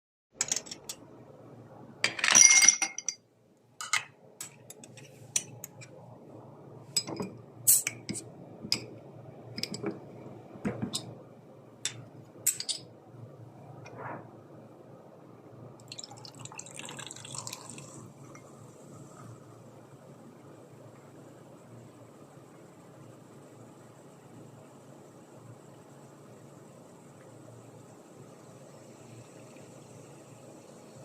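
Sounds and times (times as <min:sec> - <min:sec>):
faint steady hum: 0:00.4 - 0:31.0.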